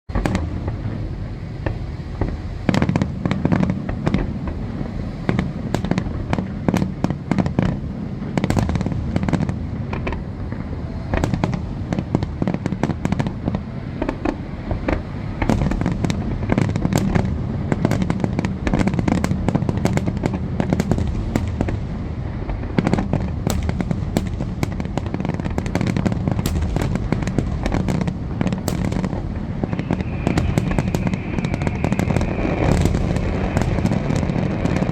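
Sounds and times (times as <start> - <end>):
constant low rumble: 0.1 - 34.9
fireworks booming and cracking: 0.1 - 34.9.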